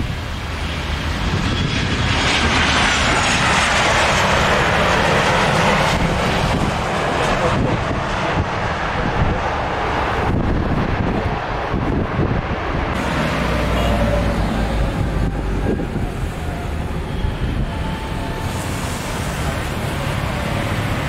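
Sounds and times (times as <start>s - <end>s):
jet airliner landing: 0.0s - 21.0s.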